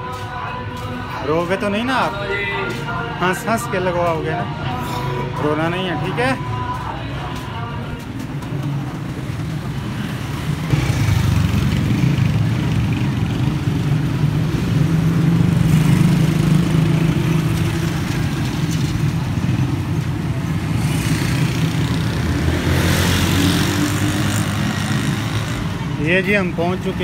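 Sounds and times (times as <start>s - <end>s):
passing traffic rushing: 0.0s - 27.0s.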